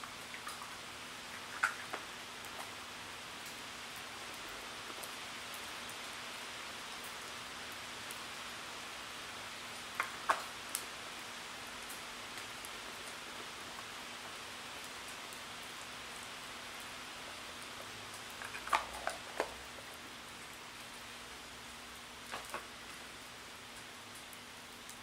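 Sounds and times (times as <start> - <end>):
wood fire hissing and crackling: 0.0 - 25.0.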